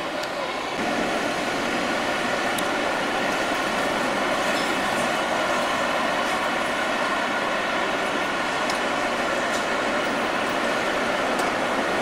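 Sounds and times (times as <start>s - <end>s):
city street noise: 0.0s - 12.0s.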